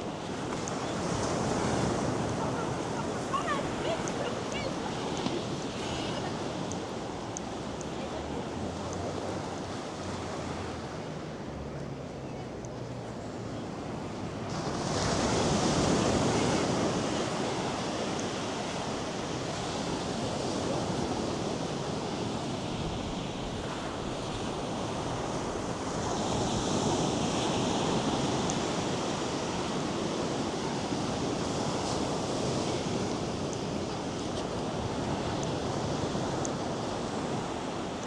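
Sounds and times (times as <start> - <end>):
waves breaking on beach: 0.0 - 38.0.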